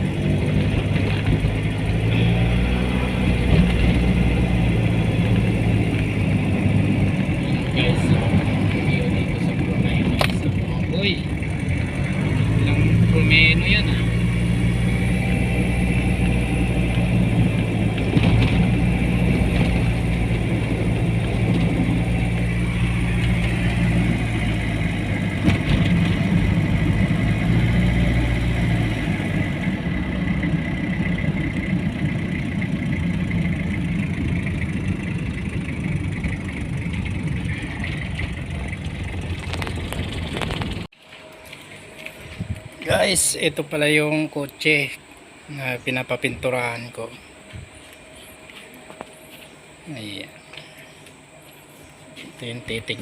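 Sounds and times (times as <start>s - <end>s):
car engine humming: 0.0s - 53.0s
road noise: 0.0s - 53.0s.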